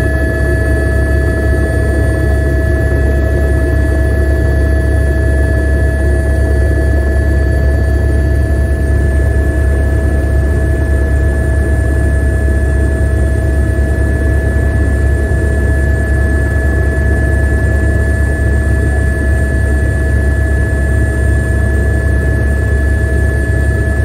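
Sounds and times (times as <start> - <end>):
helicopter rotor and engine rumble: 0.0 - 24.0.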